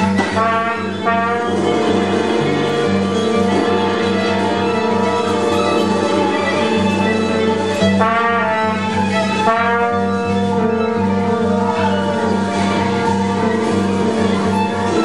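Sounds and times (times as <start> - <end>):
music with long held notes: 0.0 - 15.0
steady low drone: 0.0 - 15.0.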